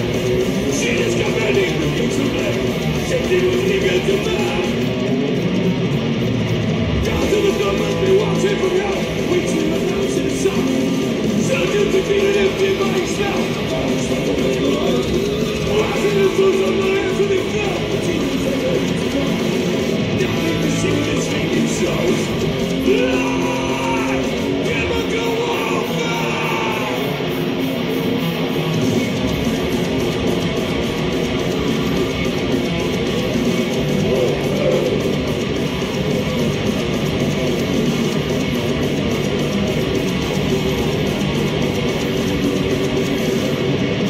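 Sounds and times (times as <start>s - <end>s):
distorted electric guitars: 0.0s - 44.0s
thrash metal band playing live: 0.0s - 44.0s.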